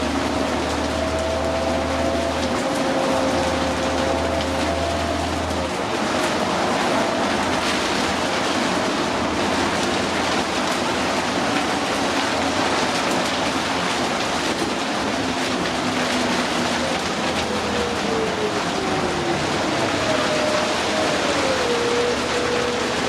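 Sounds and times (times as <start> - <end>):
heavy rain and wet-road noise: 0.0 - 23.0.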